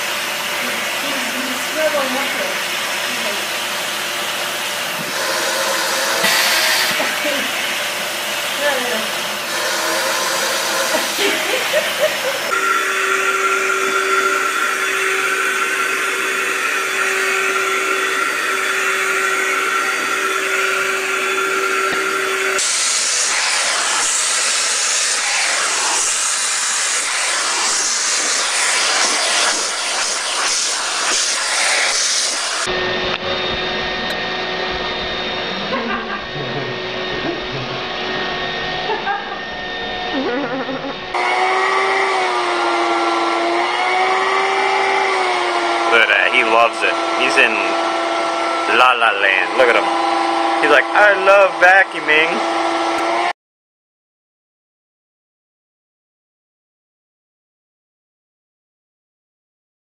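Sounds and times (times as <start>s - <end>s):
vacuum cleaner running: 0.0s - 53.4s.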